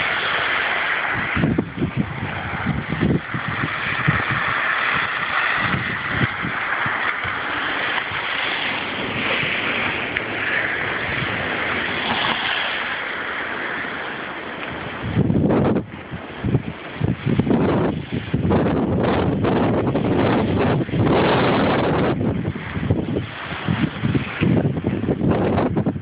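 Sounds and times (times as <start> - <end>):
blizzard wind blowing: 0.0 - 26.0
wind buffeting microphone: 0.0 - 26.0.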